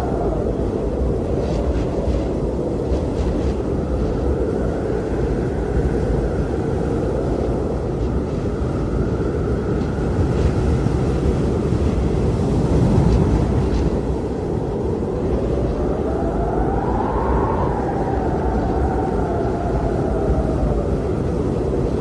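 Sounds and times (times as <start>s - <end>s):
blizzard wind whistling: 0.0s - 22.0s.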